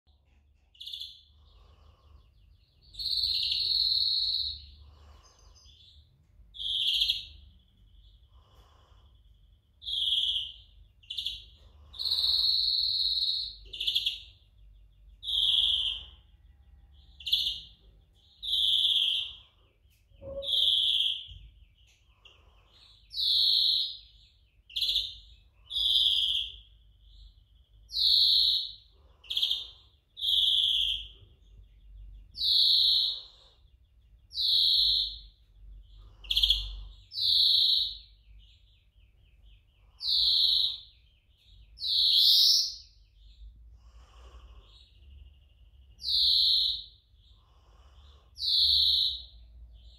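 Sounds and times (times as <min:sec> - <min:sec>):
greenfinch singing: 0:00.6 - 0:49.9.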